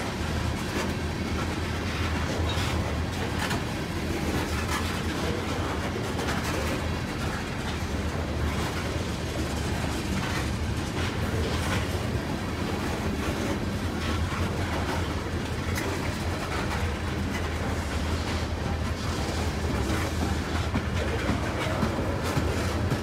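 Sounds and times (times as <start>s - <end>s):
freight train rumbling past: 0.0s - 23.0s
train wheels clicking: 0.0s - 23.0s.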